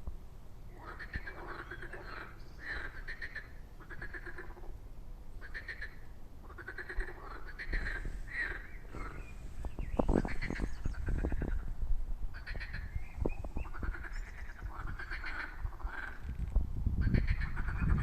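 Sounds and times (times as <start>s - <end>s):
frogs croaking in a chorus: 0.7s - 4.8s, 5.4s - 11.7s, 12.3s - 16.4s, 17.0s - 18.0s.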